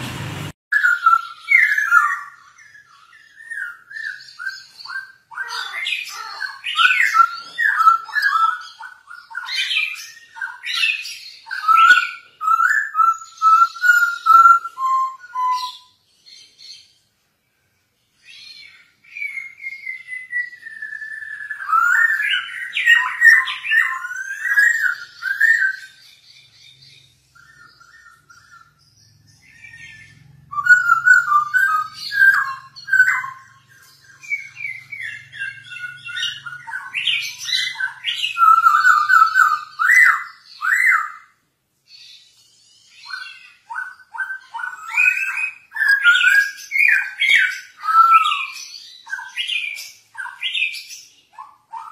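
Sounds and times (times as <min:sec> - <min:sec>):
bird whistling and warbling: 0:00.7 - 0:16.9, 0:18.2 - 0:51.9.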